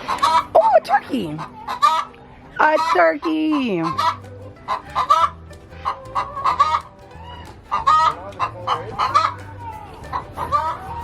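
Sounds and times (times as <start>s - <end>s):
chickens calling: 0.0s - 11.0s.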